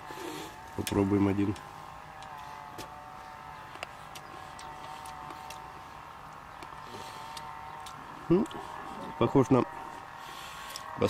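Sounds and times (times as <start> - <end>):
faint mechanical drone: 0.0 - 11.0.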